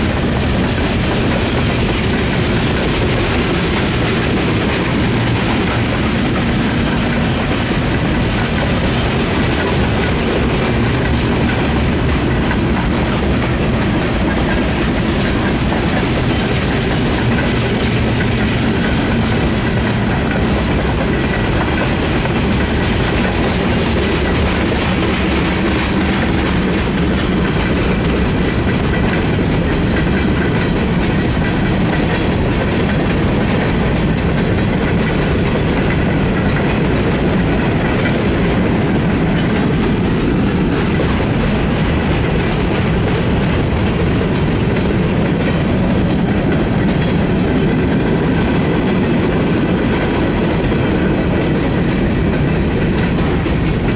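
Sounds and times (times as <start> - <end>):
freight train rumbling: 0.0 - 53.9
wheels clattering over rail joints: 0.0 - 53.9.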